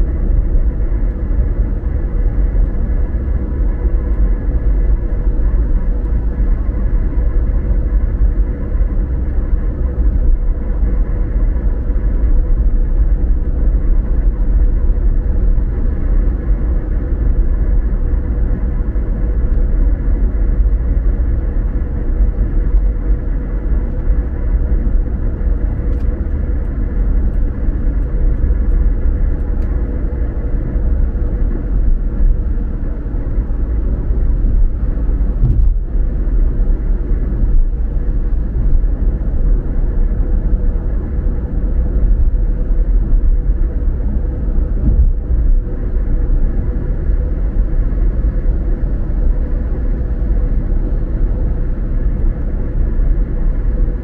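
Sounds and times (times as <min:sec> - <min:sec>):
car tyres and engine rumble: 0:00.0 - 0:54.0
faint steady hum: 0:00.0 - 0:54.0.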